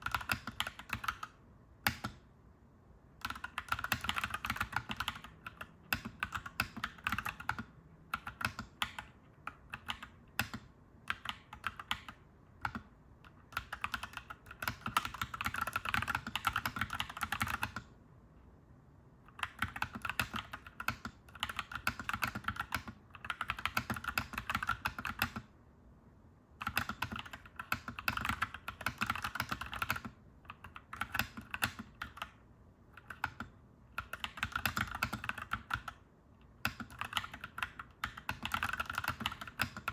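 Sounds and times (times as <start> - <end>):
mechanical keyboard typing: 0.0 - 2.3, 3.2 - 17.9, 19.3 - 25.5, 26.6 - 39.9.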